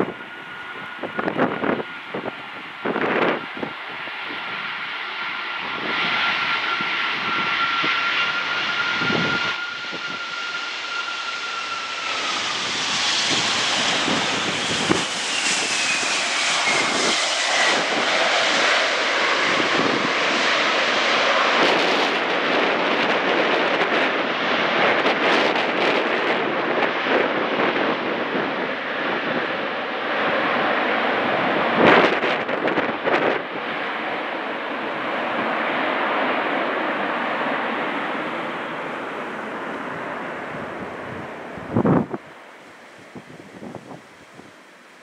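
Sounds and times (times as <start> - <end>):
higher engine whine gliding down: 0.0 - 28.0, 29.8 - 45.0
jet engine roar on runway: 0.0 - 45.0
jet engines whining: 0.0 - 45.0.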